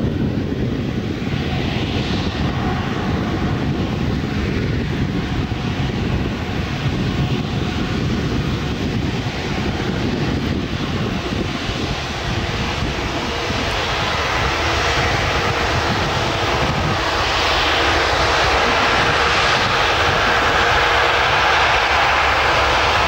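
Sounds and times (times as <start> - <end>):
jet engines taxiing: 0.0 - 23.0.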